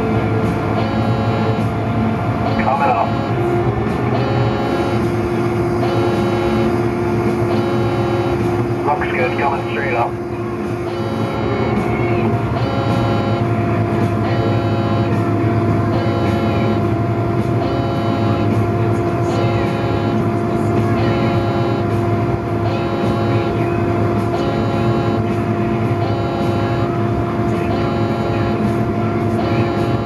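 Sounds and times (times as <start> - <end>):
crane engine running: 0.0 - 30.0
steady whine: 0.0 - 30.0
electronic warning beep: 0.2 - 1.8, 2.4 - 3.5, 4.1 - 30.0.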